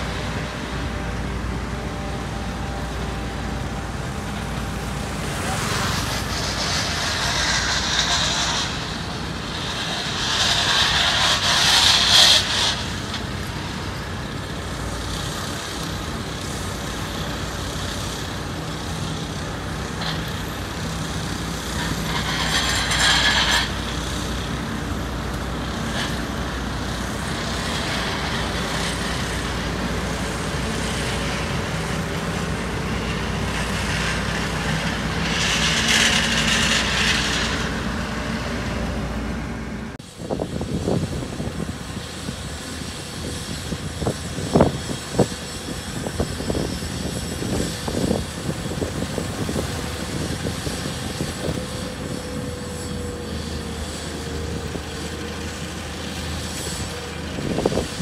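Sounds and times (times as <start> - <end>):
loud hissing surge: 0.0 - 58.0
road roller diesel engines running: 0.0 - 58.0.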